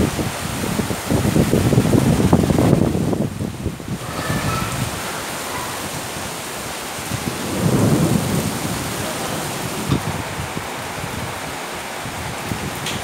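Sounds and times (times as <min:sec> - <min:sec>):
steady rain hissing: 0:00.0 - 0:13.0.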